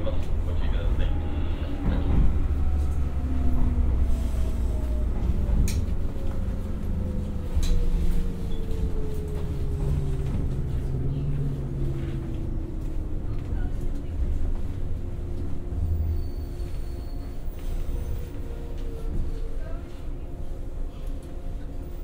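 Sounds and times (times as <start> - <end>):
low rolling rumble: 0.0 - 22.0.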